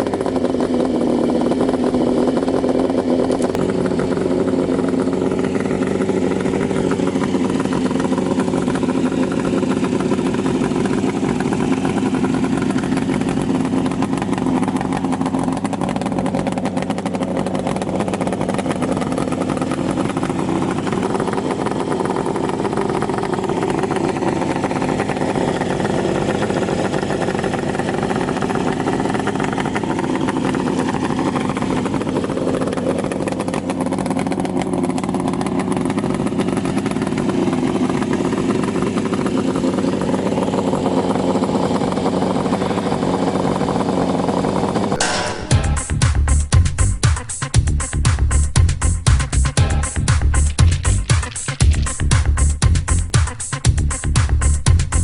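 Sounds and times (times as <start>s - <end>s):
two-stroke motorcycle engine running: 0.0s - 55.0s.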